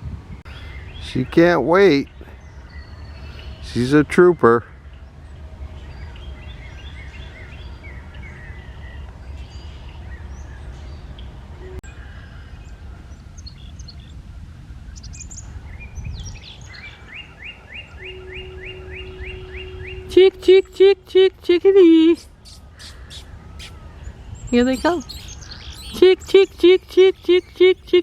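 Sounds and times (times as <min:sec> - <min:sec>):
songbirds chirping: 0:00.3 - 0:28.0.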